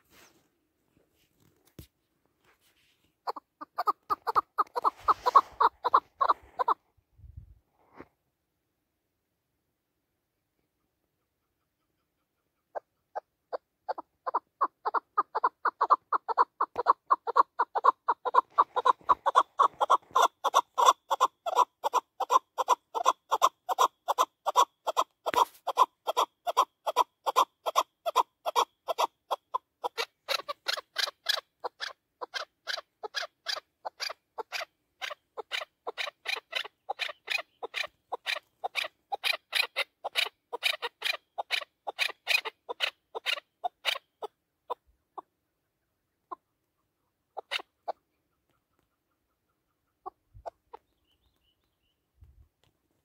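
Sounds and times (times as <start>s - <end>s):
partridge calling: 3.2s - 6.8s, 11.2s - 52.0s.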